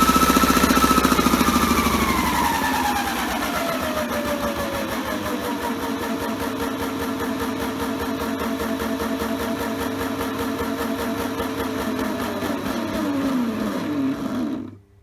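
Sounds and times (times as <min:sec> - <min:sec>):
toy washing machine motor whining: 0:00.0 - 0:14.8.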